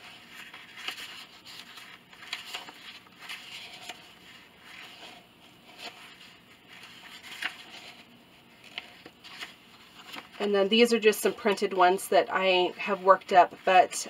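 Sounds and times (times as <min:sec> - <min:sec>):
paper pages rustling: 0:00.0 - 0:14.0.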